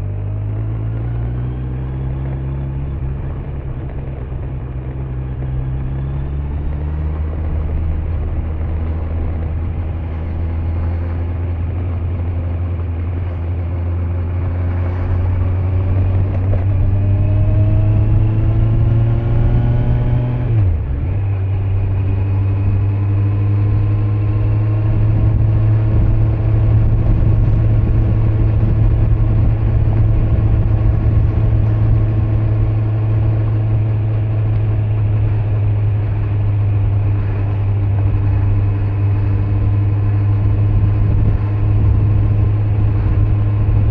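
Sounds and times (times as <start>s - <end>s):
motorcycle engine accelerating: 0.0s - 43.9s
road noise: 0.0s - 43.9s
wind noise: 0.0s - 43.9s.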